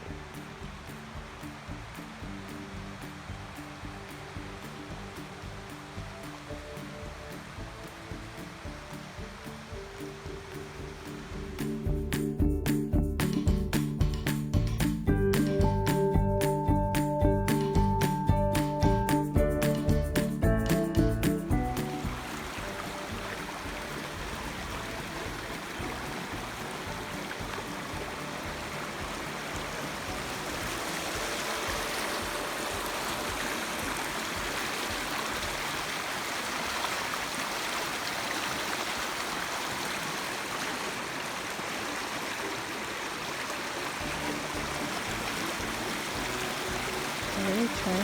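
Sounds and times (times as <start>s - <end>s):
creek water rushing: 0.0s - 48.0s.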